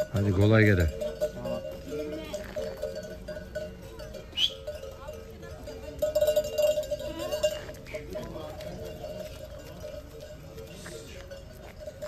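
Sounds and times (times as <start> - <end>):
sheep bells clanking: 0.0 - 12.0.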